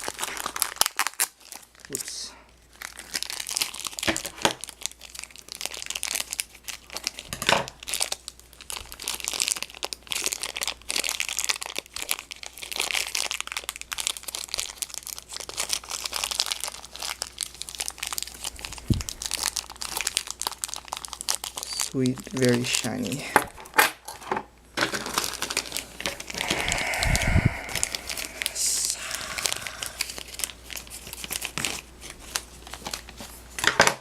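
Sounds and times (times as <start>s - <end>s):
packaging crinkling: 0.0s - 34.0s.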